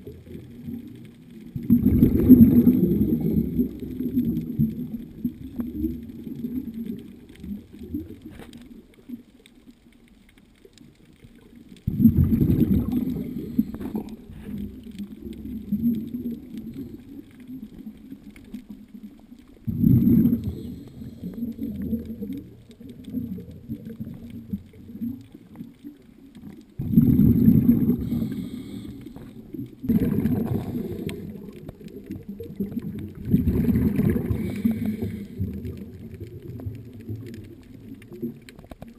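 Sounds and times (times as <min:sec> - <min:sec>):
underwater exhaled bubbles rumble: 0:00.0 - 0:38.9.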